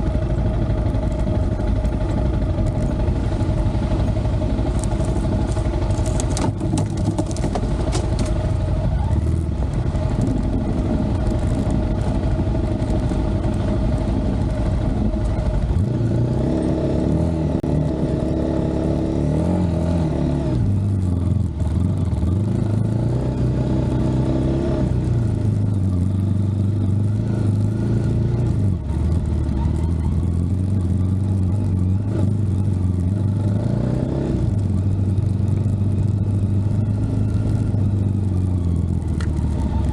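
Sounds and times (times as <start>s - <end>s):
engine revving: 2.6s - 39.9s.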